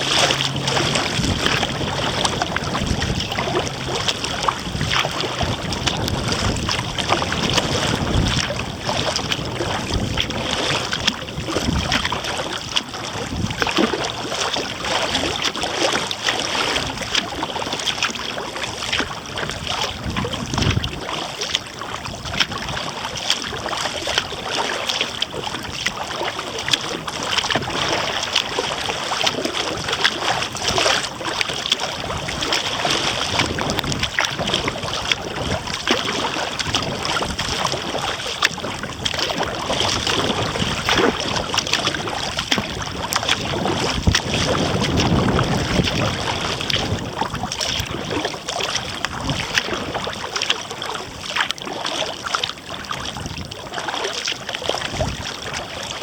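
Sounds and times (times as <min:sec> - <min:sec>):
water splashing around kayak: 0:00.0 - 0:56.0
wind rumbling on microphone: 0:00.0 - 0:56.0.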